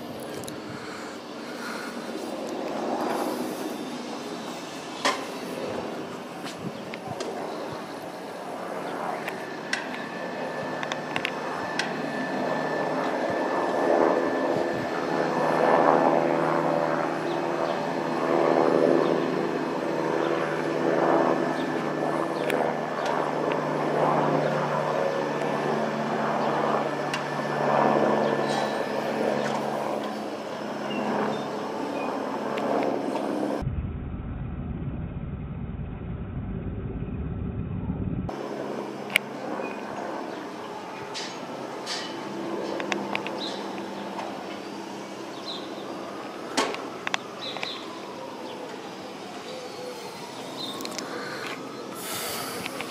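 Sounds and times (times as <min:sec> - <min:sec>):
helicopter drone: 0:00.0 - 0:52.9.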